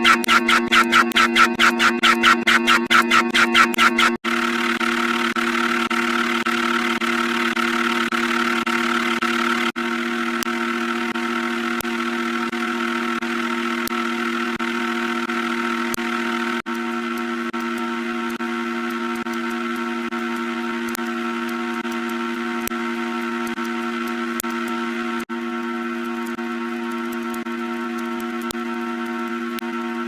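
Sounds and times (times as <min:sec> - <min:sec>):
steady drone of held tones: 0:00.0 - 0:30.0.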